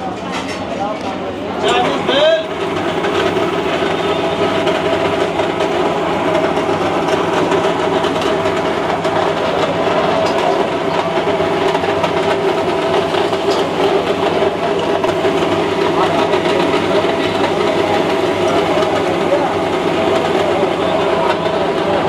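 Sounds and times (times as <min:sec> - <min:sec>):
loud steady kitchen hum: 0:00.0 - 0:22.0.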